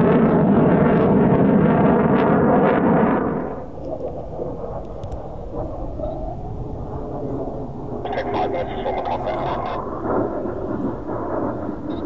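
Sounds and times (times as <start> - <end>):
distant jet engine rumble: 0.0 - 12.0.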